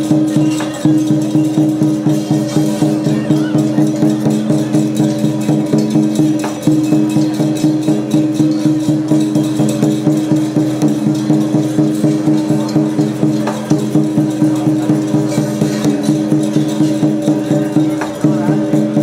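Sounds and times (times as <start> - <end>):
drum beats: 0.0 - 19.0.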